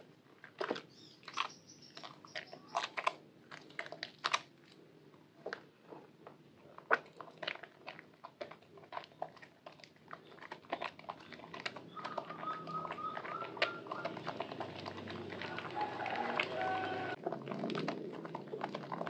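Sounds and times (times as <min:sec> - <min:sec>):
wet soap lather squelching: 0:00.0 - 0:04.8, 0:06.7 - 0:19.0.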